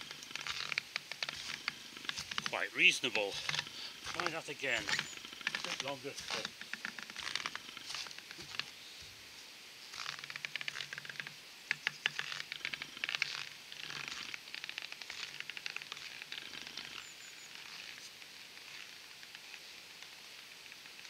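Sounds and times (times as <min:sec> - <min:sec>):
metal stilts crunching through snow: 0:00.0 - 0:08.8, 0:09.8 - 0:19.8.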